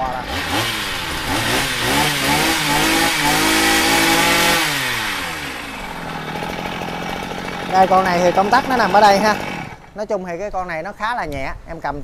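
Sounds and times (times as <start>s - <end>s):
small petrol engine revving: 0.0s - 10.0s.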